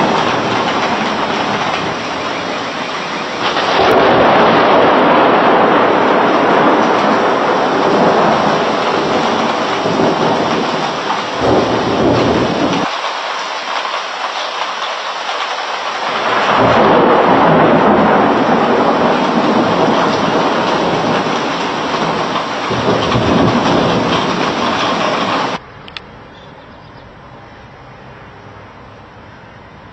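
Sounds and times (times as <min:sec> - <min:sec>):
heavy rain pouring: 0:00.0 - 0:25.6
thunder rolling: 0:00.0 - 0:25.6.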